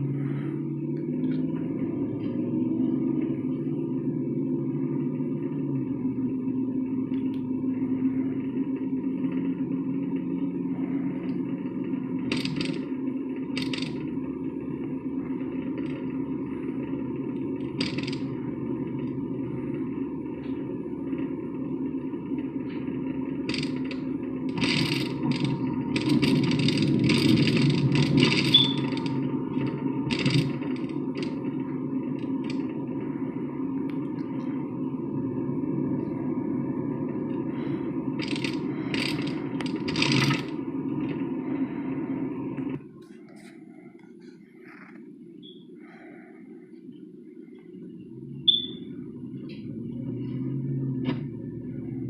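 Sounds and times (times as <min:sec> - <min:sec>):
road and engine rumble: 0:00.0 - 0:52.0.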